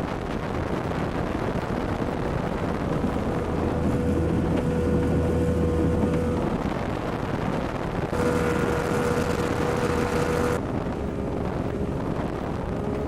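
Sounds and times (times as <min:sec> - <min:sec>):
outboard motor running at speed: 0:00.0 - 0:13.0
wind and water rush: 0:00.0 - 0:13.0.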